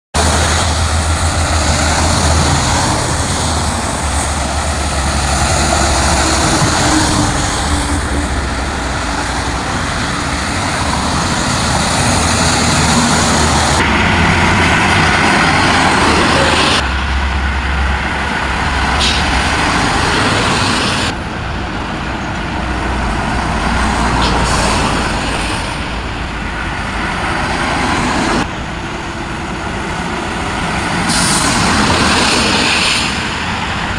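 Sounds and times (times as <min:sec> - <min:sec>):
trucks driving on highway: 0:00.1 - 0:33.9.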